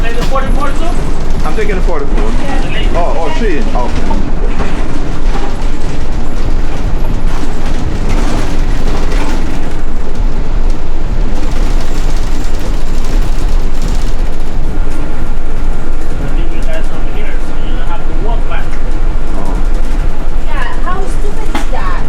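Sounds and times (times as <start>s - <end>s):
bus driving rumble: 0.0s - 22.0s.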